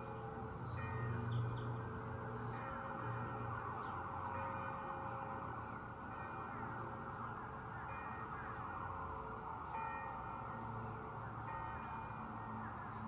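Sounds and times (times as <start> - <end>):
church bells ringing: 0.0 - 7.0, 7.8 - 13.0.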